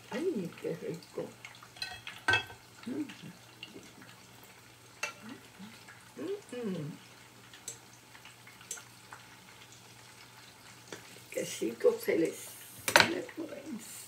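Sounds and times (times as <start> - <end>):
fritters sizzling in hot oil: 0.0 - 14.0.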